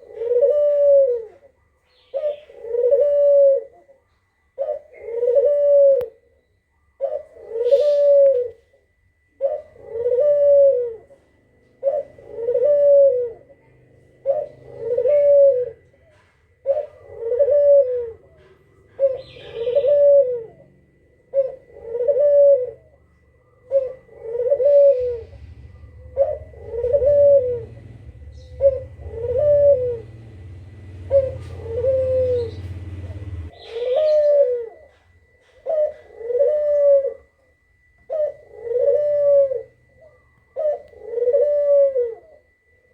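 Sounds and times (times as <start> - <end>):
bird cooing call: 0.0 - 42.9.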